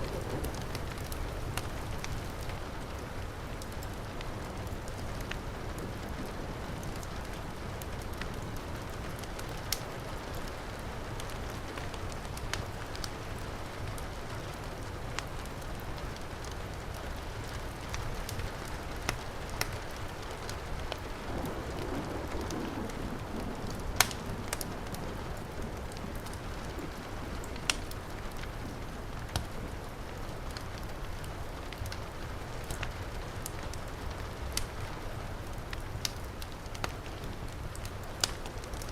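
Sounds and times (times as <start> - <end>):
fireplace fire crackling and popping: 0.0 - 38.9
heavy rain: 0.0 - 38.9.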